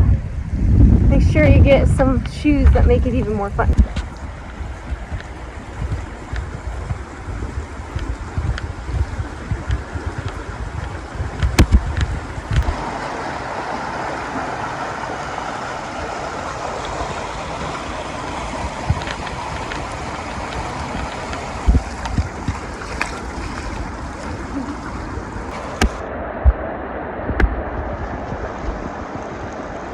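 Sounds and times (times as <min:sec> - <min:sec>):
wind buffeting microphone: 0:00.0 - 0:29.9
flowing water rushing: 0:01.1 - 0:29.9.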